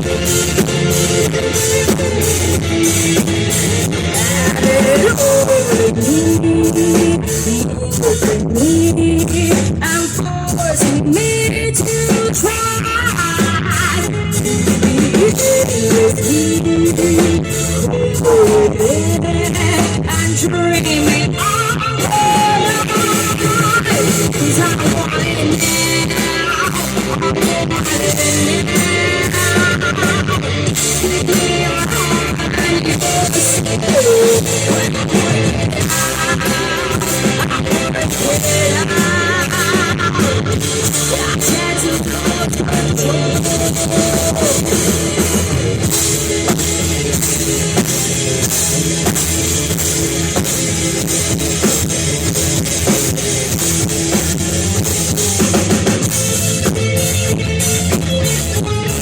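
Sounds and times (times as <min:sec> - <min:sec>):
guitar lead with bent notes: 0:00.0 - 0:59.0
rock band playing: 0:00.0 - 0:59.0.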